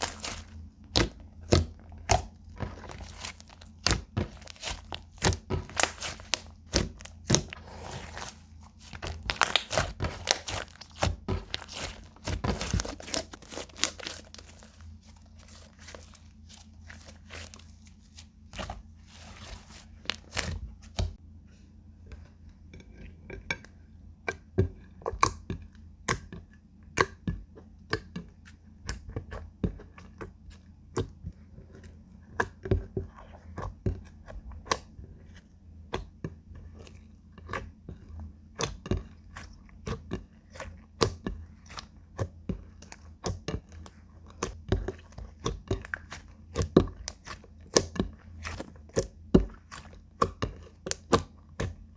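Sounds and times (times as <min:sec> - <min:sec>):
slime kneaded by hand: 0:00.0 - 0:51.9.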